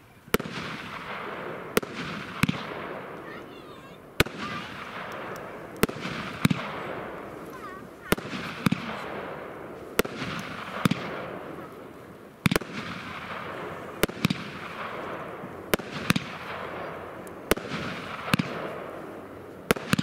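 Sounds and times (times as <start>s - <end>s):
firework bangs: 0.0s - 20.0s.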